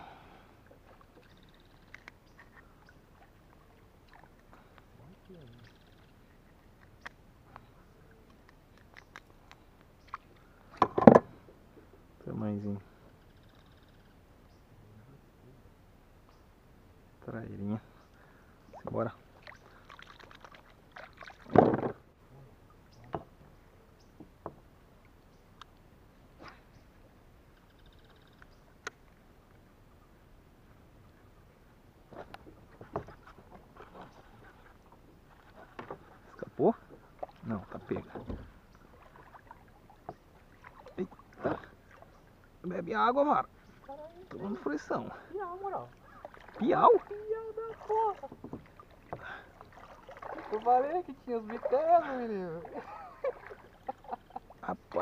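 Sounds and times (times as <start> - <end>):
paddle splashing water: 0.4 - 12.1, 18.1 - 29.4, 31.0 - 55.0.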